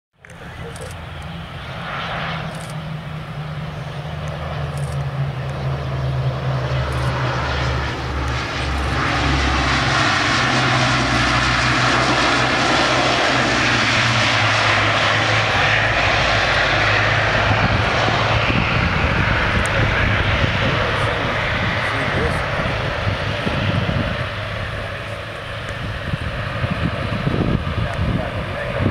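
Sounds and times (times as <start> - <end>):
turboprop plane rolling on runway: 0.2 - 28.9.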